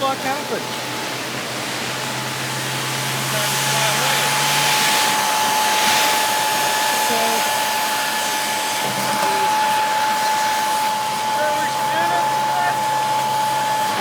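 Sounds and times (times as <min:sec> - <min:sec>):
electric air blower running: 0:00.0 - 0:14.0.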